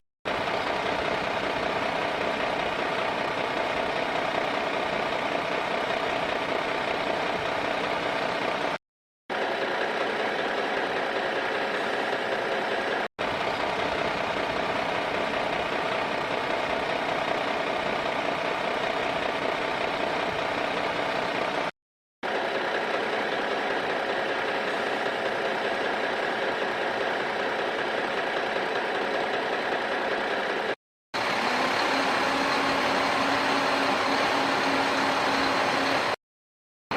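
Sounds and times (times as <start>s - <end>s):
engine-like mechanical hum: 0.3s - 36.2s.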